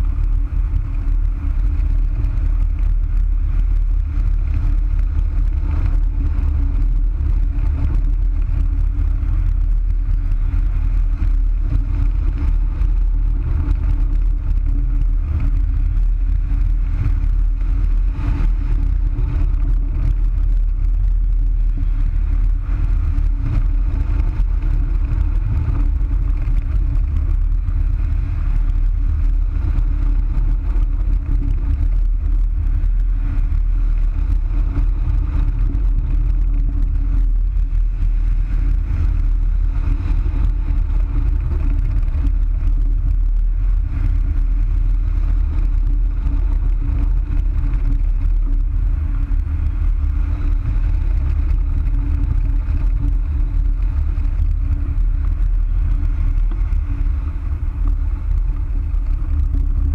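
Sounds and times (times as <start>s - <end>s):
faint steady hum: 0.0s - 59.9s
wind rushing over microphone: 0.0s - 59.9s.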